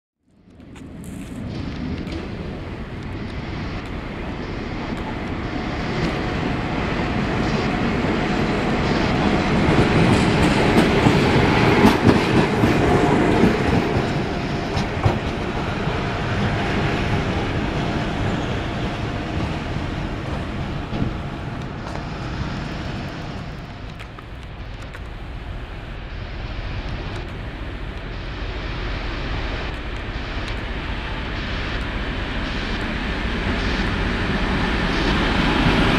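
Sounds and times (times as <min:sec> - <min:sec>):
diesel locomotive engine: 0:00.3 - 0:35.9.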